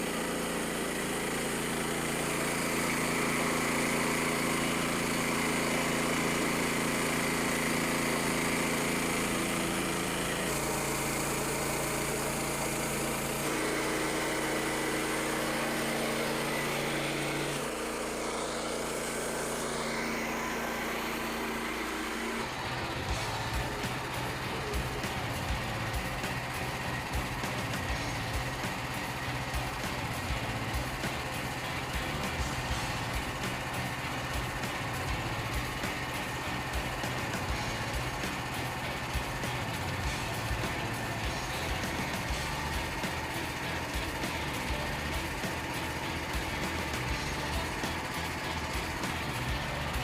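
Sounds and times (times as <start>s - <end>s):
small gas engine running: 0.0s - 50.0s.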